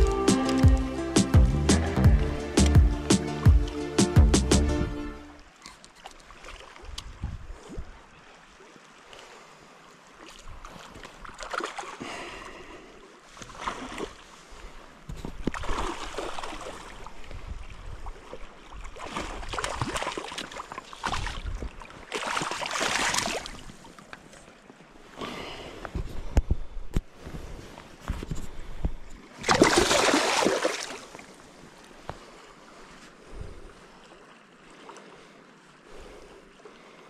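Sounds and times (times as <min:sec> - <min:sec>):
river water flowing and splashing: 0:00.0 - 0:37.0.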